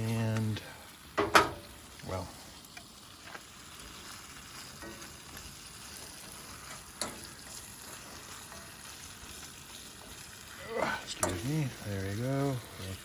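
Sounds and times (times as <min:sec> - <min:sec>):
chili sizzling in a pan: 0:00.0 - 0:13.0.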